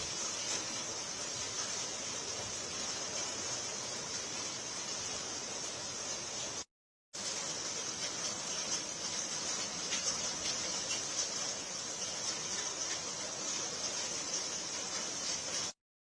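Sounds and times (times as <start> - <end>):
heavy rain falling: 0.0 - 15.8.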